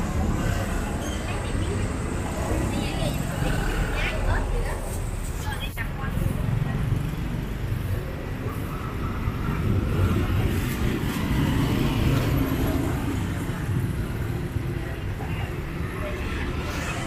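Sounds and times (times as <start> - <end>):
motorbikes and cars passing: 0.0 - 17.0.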